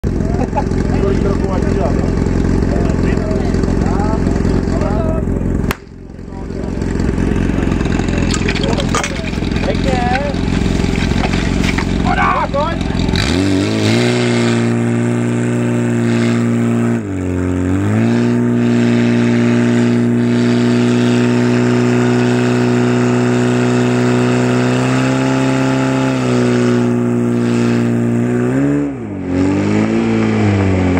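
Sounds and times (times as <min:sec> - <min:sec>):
pump petrol engine at high revs: 0:00.0 - 0:30.9.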